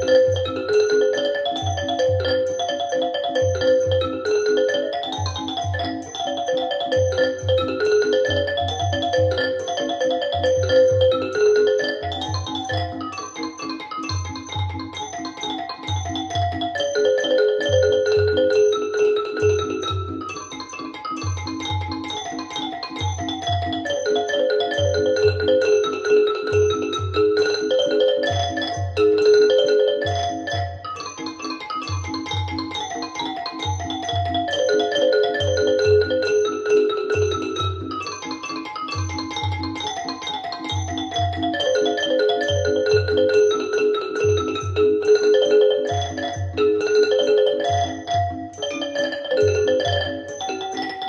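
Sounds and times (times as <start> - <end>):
mallet percussion melody: 0.0 - 51.0
music with struck notes and bass beat: 0.0 - 51.0.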